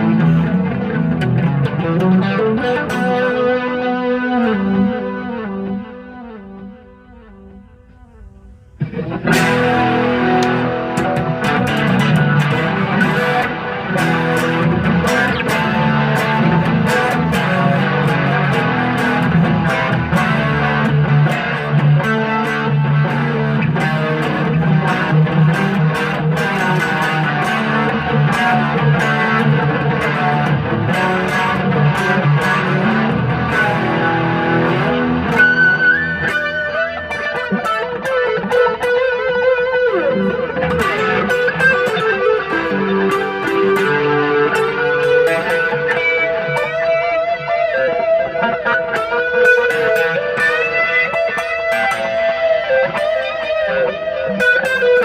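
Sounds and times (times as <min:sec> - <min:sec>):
clean electric guitar playing: 0:00.0 - 0:55.0.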